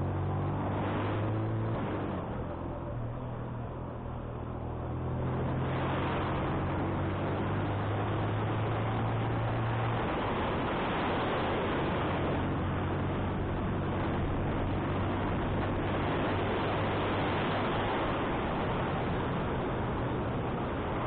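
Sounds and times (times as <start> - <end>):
motorcycle engine drone: 0.0 - 21.0
wind rushing over microphone: 0.0 - 21.0.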